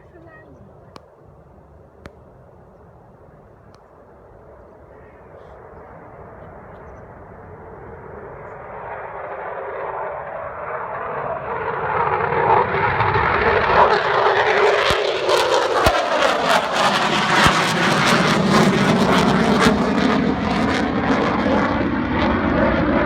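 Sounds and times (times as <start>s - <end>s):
fighter jet approaching: 4.2s - 23.0s.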